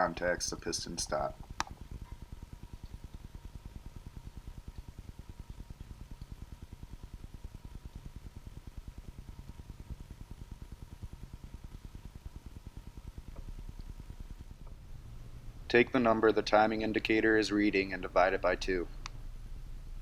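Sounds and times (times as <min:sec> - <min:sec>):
faint steady whine: 0:00.0 - 0:20.0
low pulsing motor: 0:00.0 - 0:20.0.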